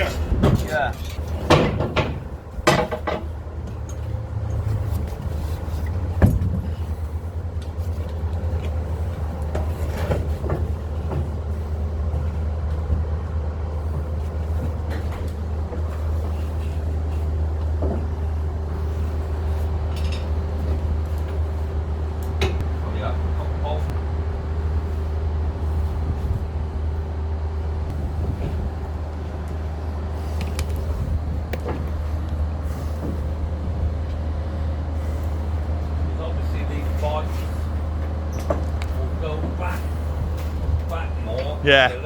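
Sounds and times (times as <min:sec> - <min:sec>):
generator engine droning: 0:00.0 - 0:42.0.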